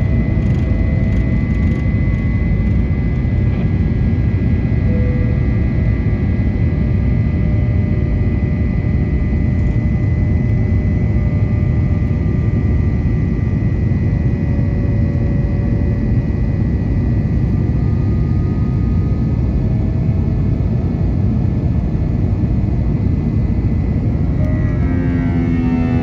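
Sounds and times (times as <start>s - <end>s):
faint steady whine: 0.0s - 26.0s
jet engines and airflow rumble: 0.0s - 26.0s.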